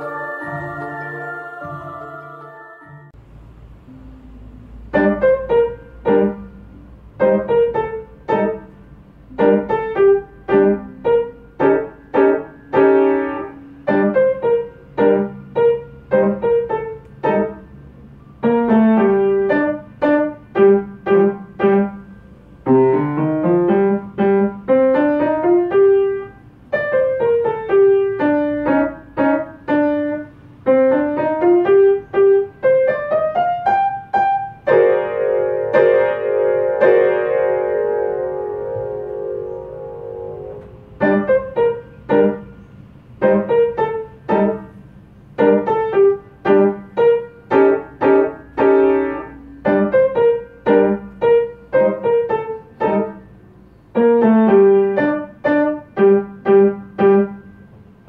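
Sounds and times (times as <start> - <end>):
upright piano playing: 0.0 - 3.3, 3.9 - 58.0.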